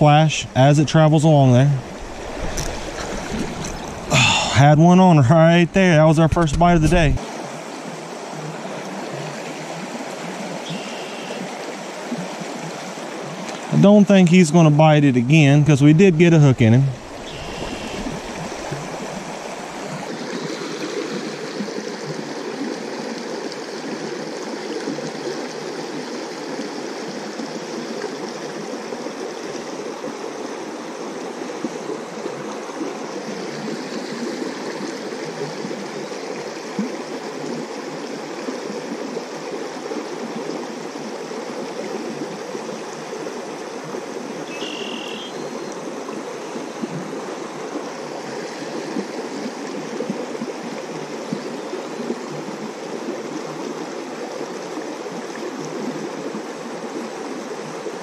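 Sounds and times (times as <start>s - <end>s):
creek water babbling: 0.0s - 58.0s.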